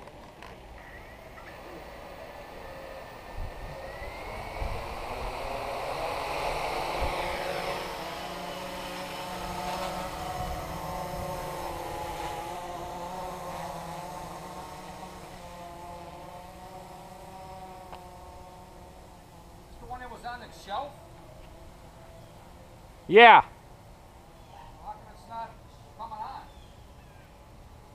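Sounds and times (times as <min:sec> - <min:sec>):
quadcopter motors whining: 0:00.0 - 0:23.3.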